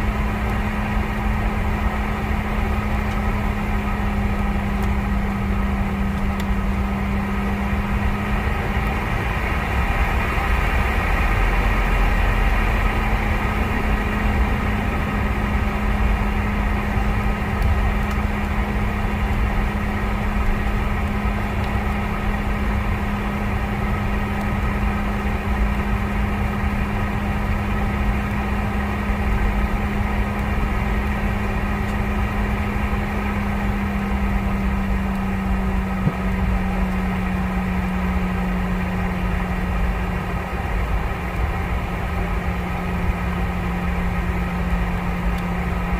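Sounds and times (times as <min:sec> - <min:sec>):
aircraft cabin engine drone: 0:00.0 - 0:45.9.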